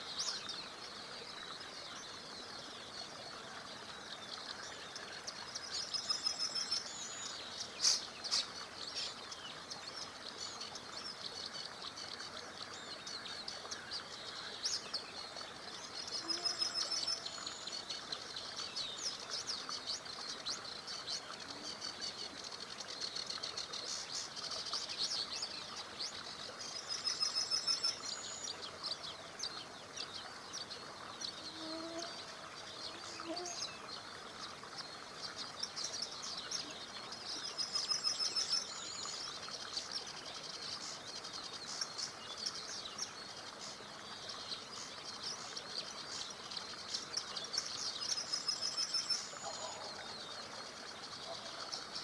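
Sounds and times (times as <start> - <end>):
small river rushing: 0.0 - 52.0
songbirds singing: 0.0 - 52.0.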